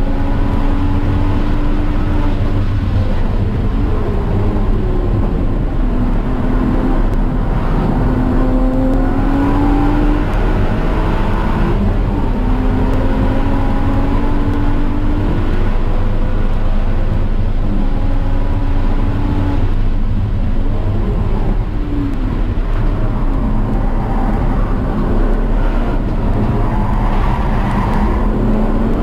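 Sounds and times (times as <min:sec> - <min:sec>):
racing car engine revving: 0:00.0 - 0:29.0
wind and road rumble: 0:00.0 - 0:29.0.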